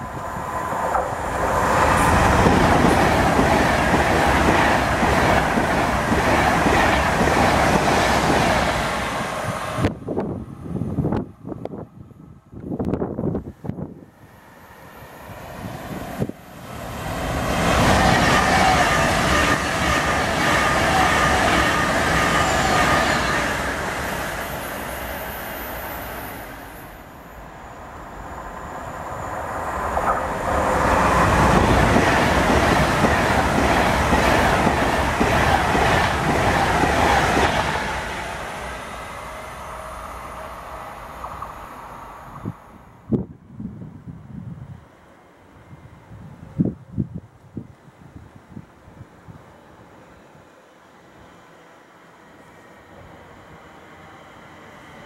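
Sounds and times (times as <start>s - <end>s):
trains passing at speed: 0.0s - 55.0s.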